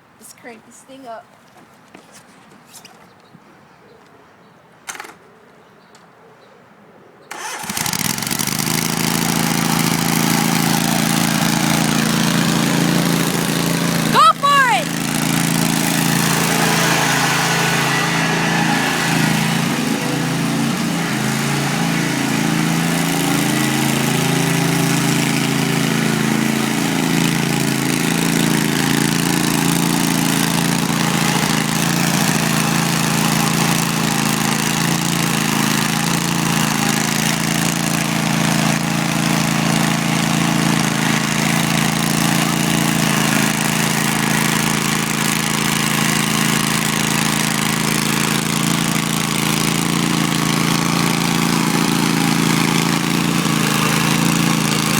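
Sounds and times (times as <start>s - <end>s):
riding lawn mower engine: 7.3s - 54.9s.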